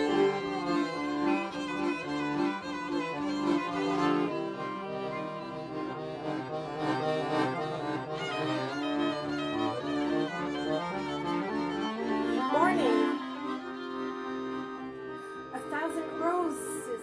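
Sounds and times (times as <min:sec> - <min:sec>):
accordion playing: 0:00.0 - 0:17.0
violins playing: 0:00.0 - 0:17.0.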